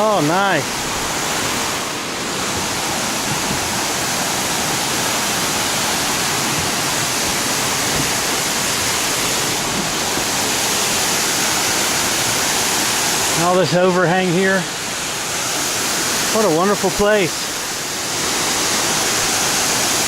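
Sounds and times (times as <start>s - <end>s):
water rushing over creek cascade: 0.0s - 20.0s.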